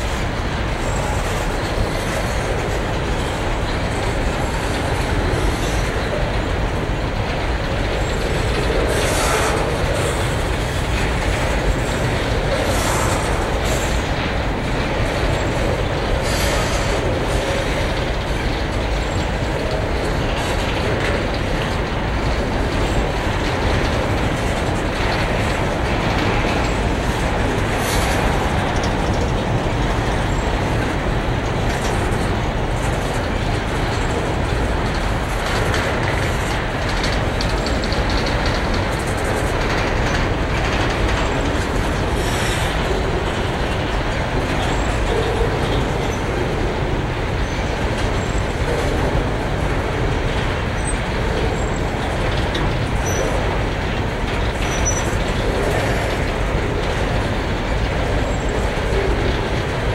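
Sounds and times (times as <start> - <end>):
faint wheel clacks: 0.0 - 59.9
freight train wheels on rails: 0.0 - 59.9.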